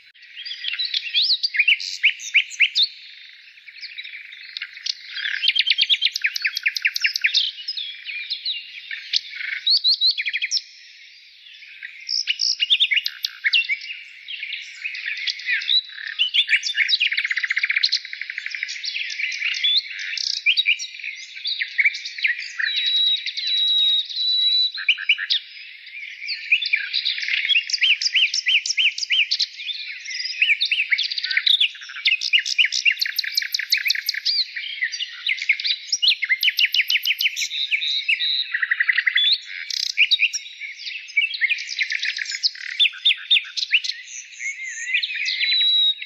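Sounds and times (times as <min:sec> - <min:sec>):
small birds chirping and trilling: 0:00.0 - 0:46.0.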